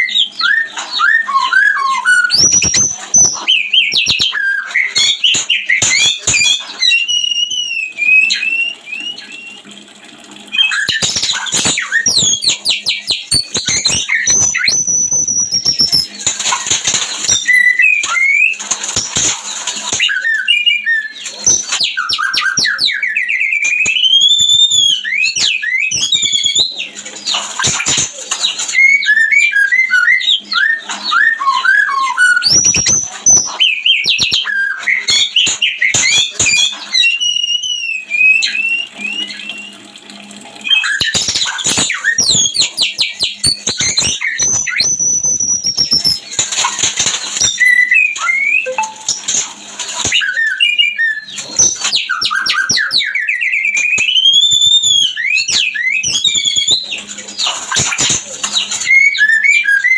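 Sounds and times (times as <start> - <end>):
bird singing whistled phrases: 0.0 - 9.7, 10.5 - 16.2, 17.2 - 19.1, 19.9 - 39.9, 40.6 - 46.4, 47.4 - 49.2, 50.1 - 59.9.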